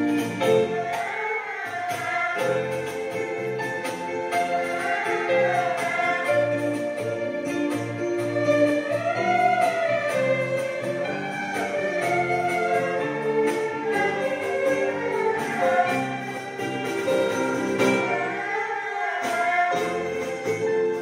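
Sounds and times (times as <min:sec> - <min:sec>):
accompaniment with steady beat: 0:00.0 - 0:18.6, 0:19.2 - 0:21.0
erhu ensemble melody: 0:00.0 - 0:21.0.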